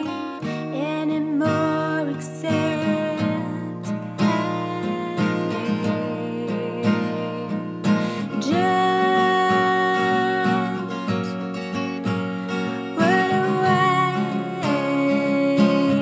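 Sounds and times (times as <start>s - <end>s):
acoustic guitar song: 0.0s - 16.0s.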